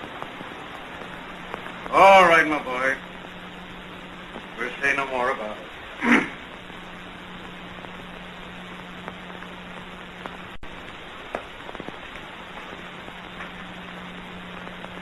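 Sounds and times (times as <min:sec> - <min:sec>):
film soundtrack hiss and crackle: 0:00.0 - 0:15.0
low steady hum: 0:00.0 - 0:15.0.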